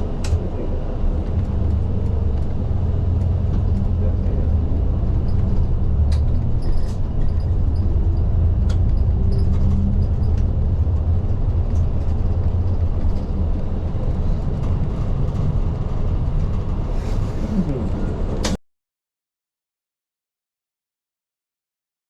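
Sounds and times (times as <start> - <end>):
bus engine and road rumble: 0.0 - 18.6.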